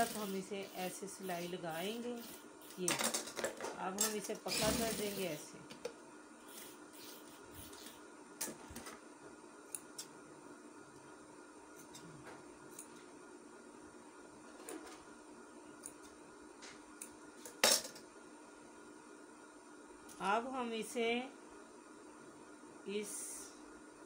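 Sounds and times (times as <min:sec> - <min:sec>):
steady faint hum: 0:00.0 - 0:24.0.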